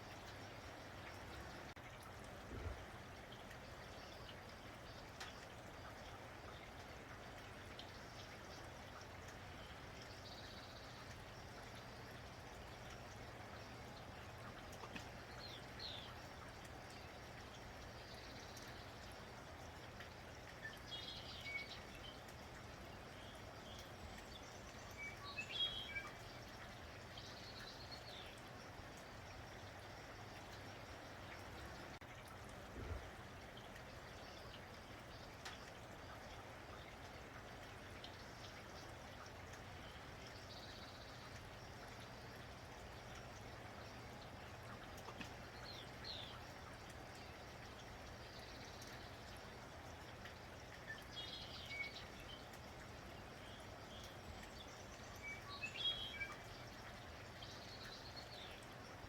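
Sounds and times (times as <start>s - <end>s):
light rain hiss: 0.0s - 59.0s.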